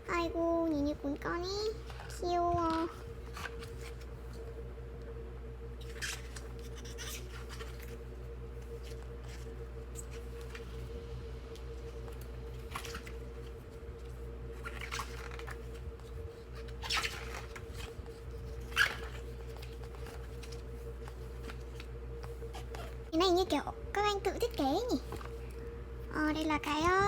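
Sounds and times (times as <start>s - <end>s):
steady low hum: 0.0s - 27.0s
book pages turning: 0.1s - 4.6s, 5.8s - 10.9s, 11.5s - 23.1s, 24.5s - 25.6s.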